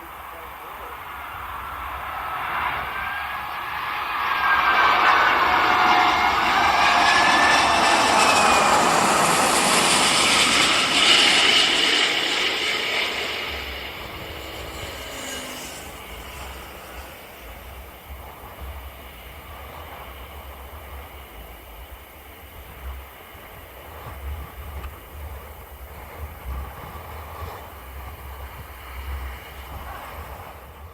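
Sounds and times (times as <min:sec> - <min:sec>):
jet airliner passing: 0:00.0 - 0:30.9.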